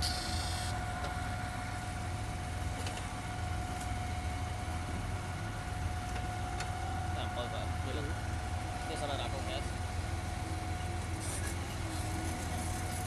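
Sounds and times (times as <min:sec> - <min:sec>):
heavy machine engine idling: 0:00.0 - 0:13.0.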